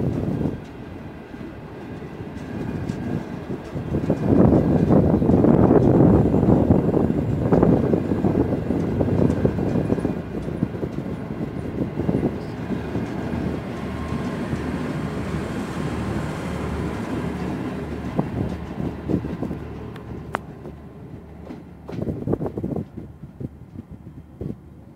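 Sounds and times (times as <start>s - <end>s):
train wheels knocking over rail joints: 1.8s - 23.1s.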